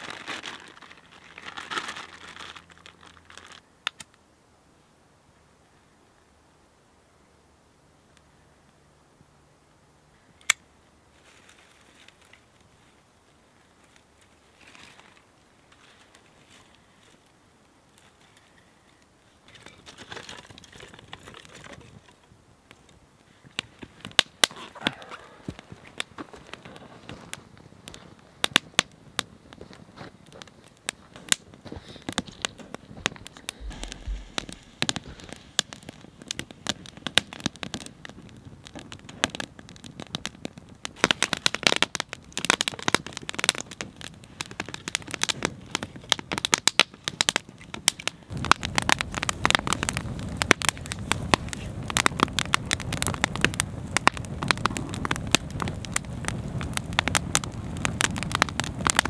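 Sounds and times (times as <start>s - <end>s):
campfire crackling and popping: 0.0s - 4.4s, 7.0s - 59.0s
rushing flames: 10.2s - 59.0s.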